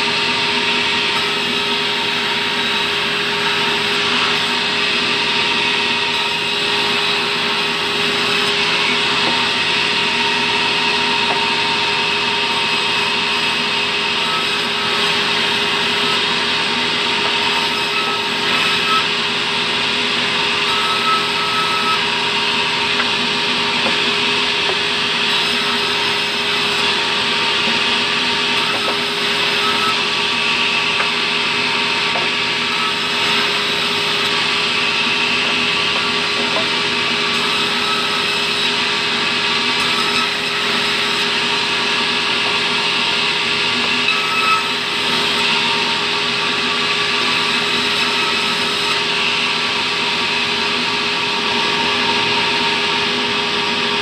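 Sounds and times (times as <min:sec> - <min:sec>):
band saw cutting timber: 0:00.0 - 0:54.0
constant machine hum: 0:00.0 - 0:54.0.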